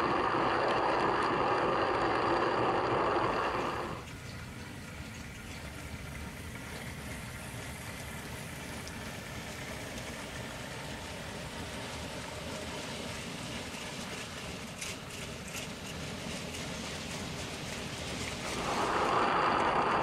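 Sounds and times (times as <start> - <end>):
model trains rumbling on track: 0.0 - 20.0.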